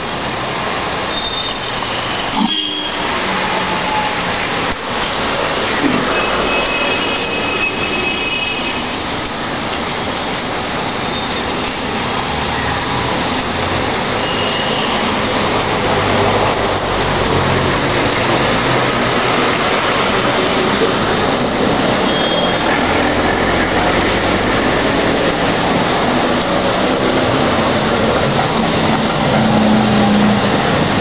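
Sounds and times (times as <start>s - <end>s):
road traffic rushing: 0.0s - 31.0s.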